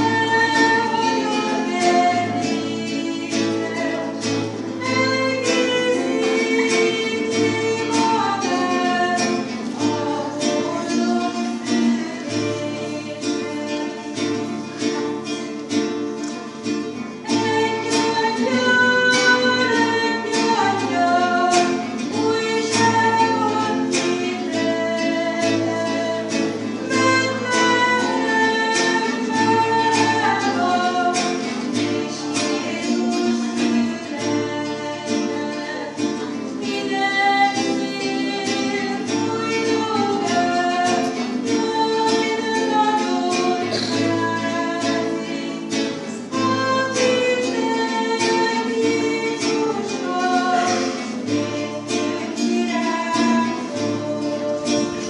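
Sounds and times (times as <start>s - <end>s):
plucked acoustic guitar music: 0.0s - 55.0s.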